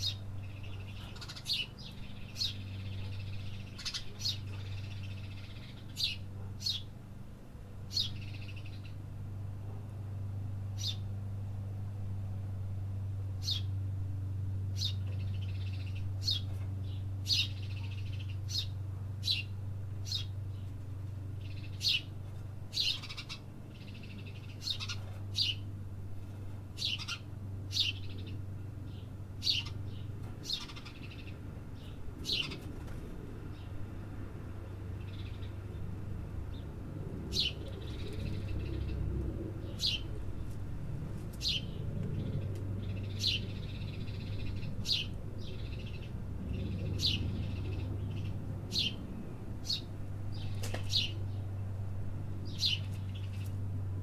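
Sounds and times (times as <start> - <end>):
small birds chirping: 0.0 - 7.0, 7.9 - 9.0, 10.7 - 11.4, 13.4 - 13.9, 14.5 - 53.8
steady low hum: 0.0 - 54.0.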